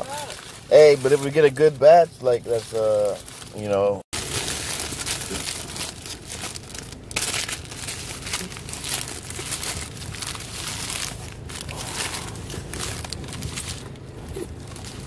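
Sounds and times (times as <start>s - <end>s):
paper wrapper crinkling: 0.0s - 1.8s, 2.4s - 15.0s.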